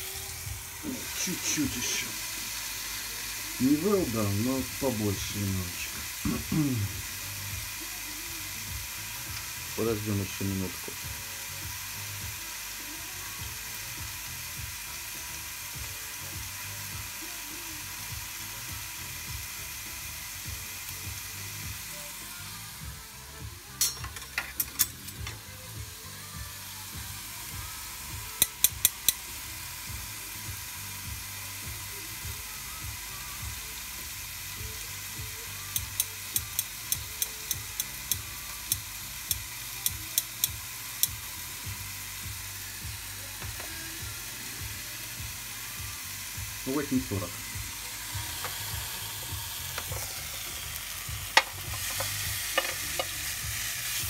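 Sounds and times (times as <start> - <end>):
steak sizzling on a grill: 0.0 - 54.0.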